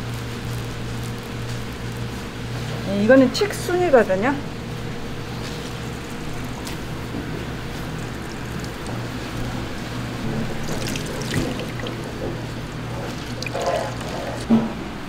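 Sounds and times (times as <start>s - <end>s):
wet rustle with crackles: 0.0s - 14.5s
steady low hum: 0.0s - 15.0s.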